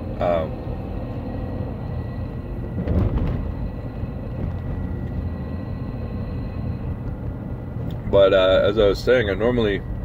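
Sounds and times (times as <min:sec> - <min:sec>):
car cabin rumble: 0:00.0 - 0:10.0
faint high whine: 0:00.0 - 0:10.0.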